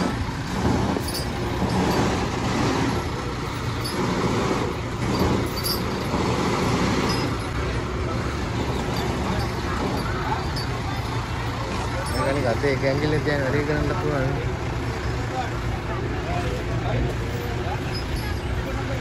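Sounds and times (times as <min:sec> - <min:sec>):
street noise: 0:00.0 - 0:19.0
truck engine running: 0:00.0 - 0:19.0.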